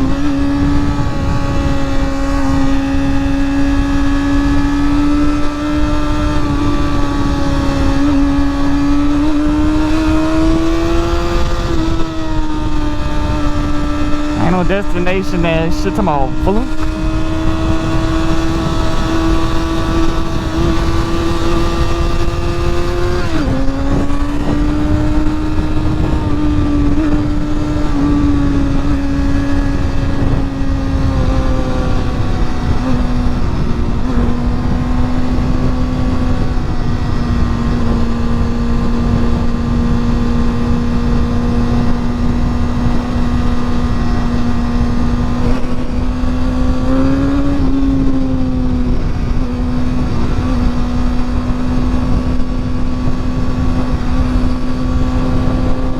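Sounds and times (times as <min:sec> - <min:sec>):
motorcycle engine cruising: 0:00.0 - 0:14.4, 0:16.3 - 0:55.9
wind noise on microphone: 0:00.0 - 0:14.4, 0:16.6 - 0:55.9.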